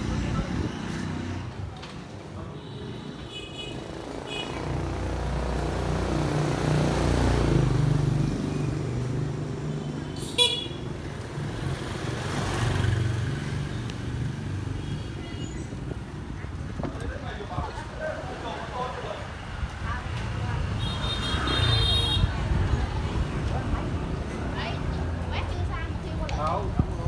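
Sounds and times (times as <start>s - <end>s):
motorbikes passing: 0.0s - 27.0s.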